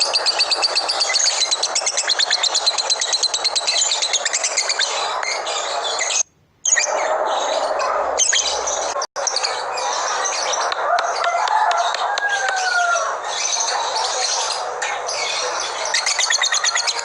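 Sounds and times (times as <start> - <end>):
lovebirds chirping and chattering: 0.0 - 17.0.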